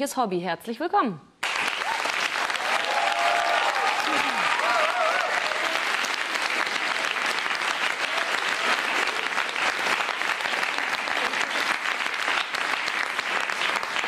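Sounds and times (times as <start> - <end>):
audience applauding: 1.4 - 14.0.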